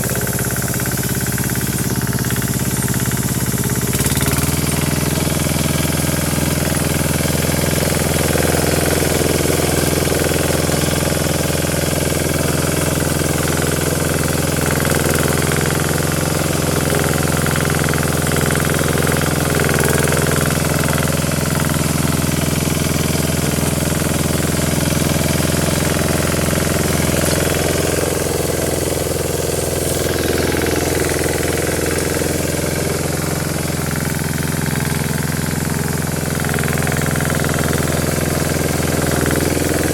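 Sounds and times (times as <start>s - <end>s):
motor hoe engine put-put: 0.0s - 39.9s.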